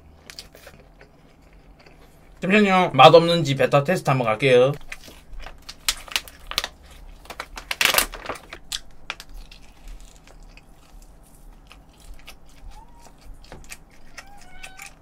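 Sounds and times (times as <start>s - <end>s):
biting and chewing: 0.0s - 2.4s, 4.8s - 15.0s.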